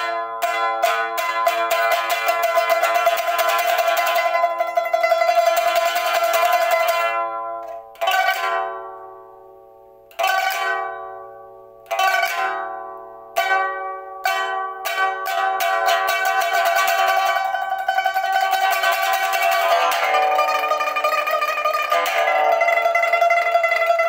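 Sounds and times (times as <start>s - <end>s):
pipa played with fingers: 0.0s - 24.0s.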